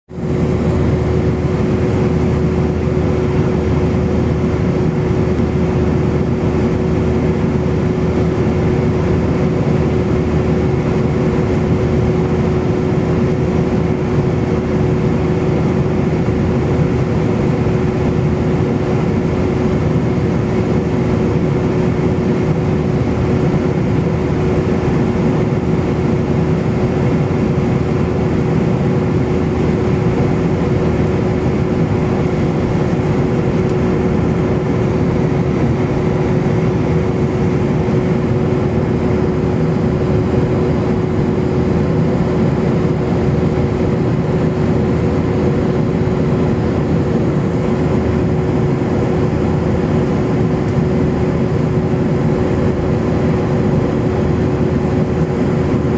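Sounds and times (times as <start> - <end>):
airliner cabin air rush and engine drone: 0.1 - 55.9
steady humming tone: 0.1 - 55.9.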